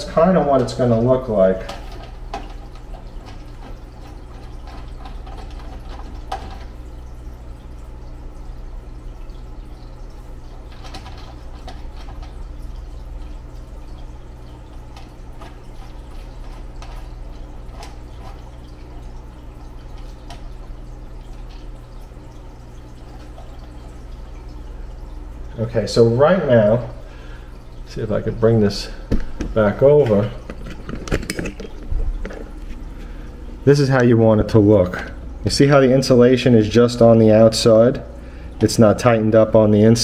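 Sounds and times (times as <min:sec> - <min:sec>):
low background hum: 0:00.0 - 0:40.0.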